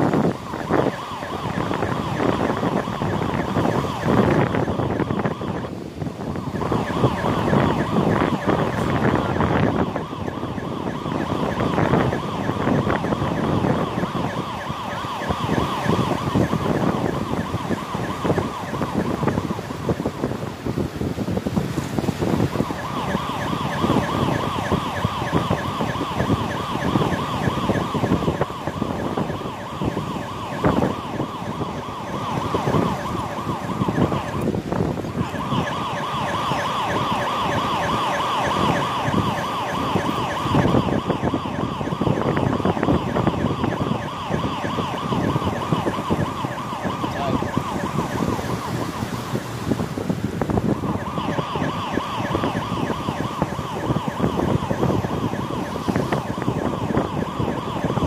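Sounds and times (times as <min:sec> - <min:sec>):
police siren wailing: 0:00.0 - 0:58.0
wind rumble on microphone: 0:00.0 - 0:58.0.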